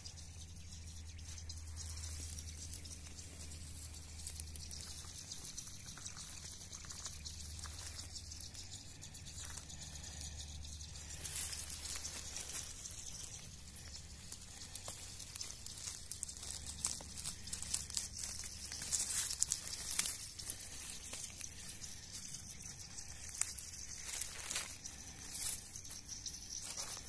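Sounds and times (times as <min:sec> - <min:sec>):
dry rustling and crackling: 0:00.0 - 0:27.0.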